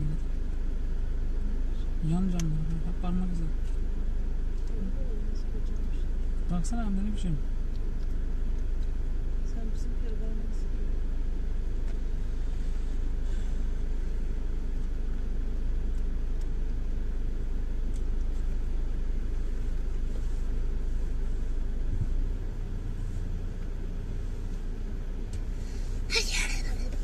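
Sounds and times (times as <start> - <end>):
car engine rumble from inside: 0.0 - 27.0.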